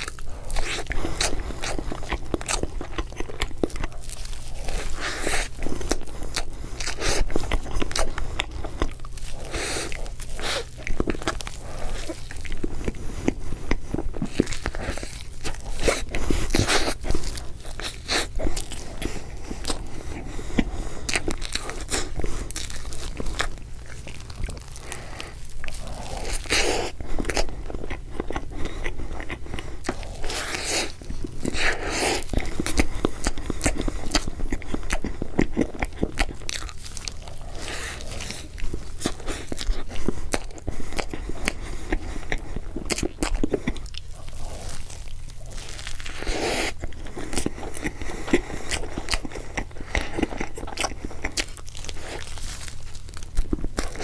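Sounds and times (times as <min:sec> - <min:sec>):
chewing cake: 0:00.0 - 0:54.0.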